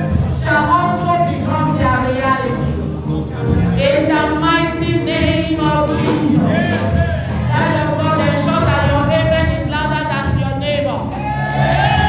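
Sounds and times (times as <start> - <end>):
person singing a melody: 0.0 - 10.5
instrumental accompaniment: 0.0 - 12.0.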